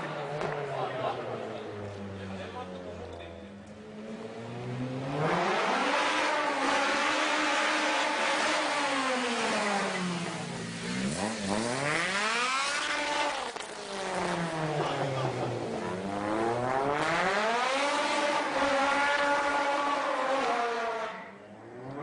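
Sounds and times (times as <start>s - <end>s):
car engine revving hard: 3.9s - 22.0s.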